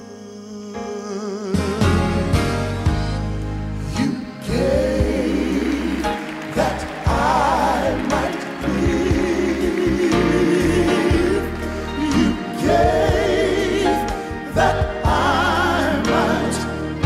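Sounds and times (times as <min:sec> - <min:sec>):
men singing with vibrato: 0:00.0 - 0:02.8, 0:03.7 - 0:17.0
choir backing: 0:00.7 - 0:17.0
band with steady bass: 0:01.6 - 0:17.0.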